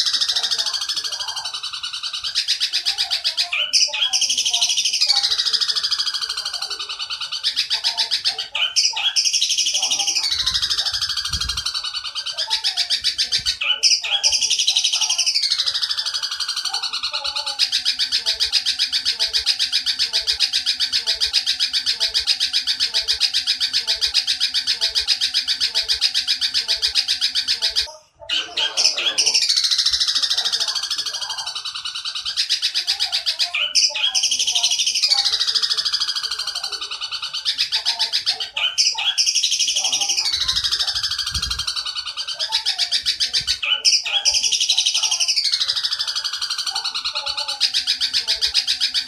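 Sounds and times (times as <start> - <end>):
bird chattering: 0.0 - 49.0
bird trilling: 0.0 - 49.0.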